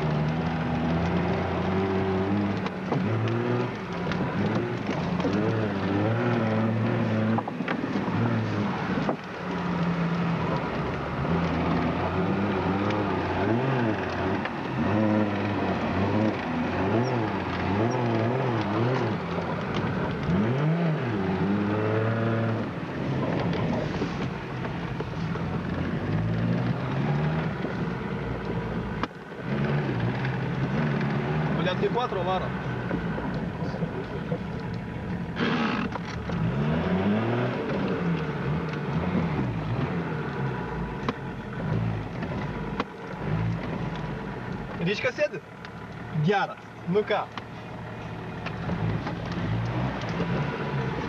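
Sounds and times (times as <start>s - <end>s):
engine revving inside cab: 0.0s - 51.0s.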